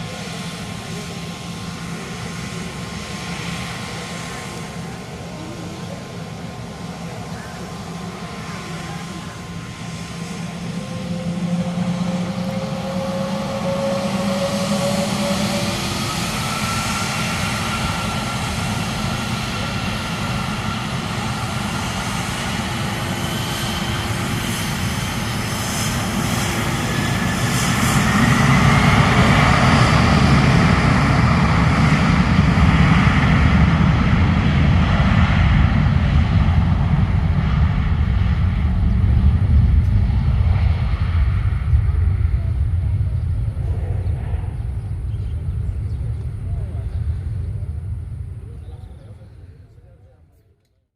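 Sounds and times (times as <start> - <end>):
jet engines whining: 0.0 - 50.2.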